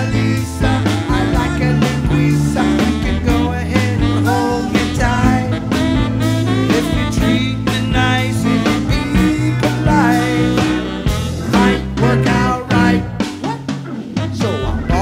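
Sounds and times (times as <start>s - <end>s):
bass: 0.0s - 15.0s
drum kit beat: 0.0s - 15.0s
electric guitar: 0.0s - 15.0s
keyboards: 0.0s - 15.0s
saxophone: 0.0s - 15.0s.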